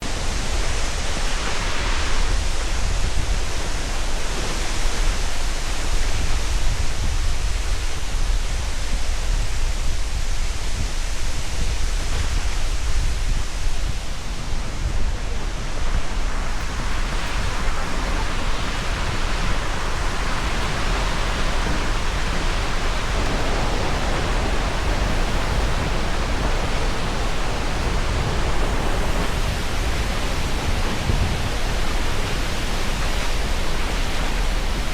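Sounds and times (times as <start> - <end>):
waterfall pouring and crashing: 0.0 - 34.9.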